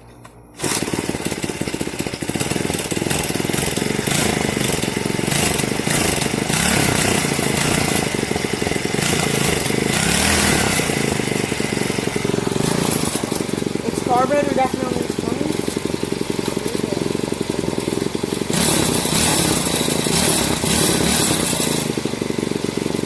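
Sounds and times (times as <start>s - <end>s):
small two-stroke engine running: 0.0s - 23.0s.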